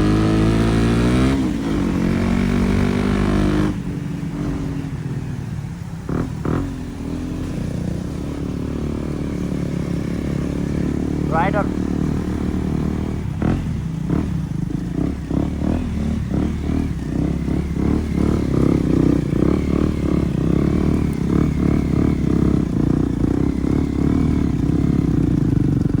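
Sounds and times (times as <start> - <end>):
motorcycle engine pulsing: 0.0 - 26.0.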